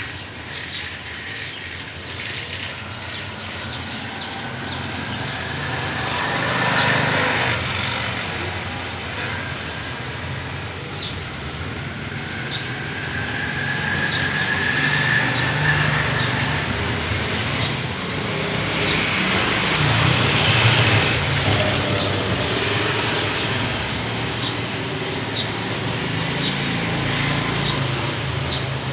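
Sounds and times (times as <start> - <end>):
street traffic: 0.0 - 28.9.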